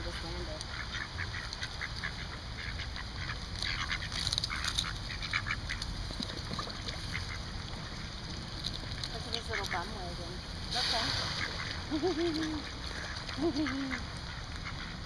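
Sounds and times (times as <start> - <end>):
ducks quacking: 0.0 - 15.0
low steady rumble: 0.0 - 15.0.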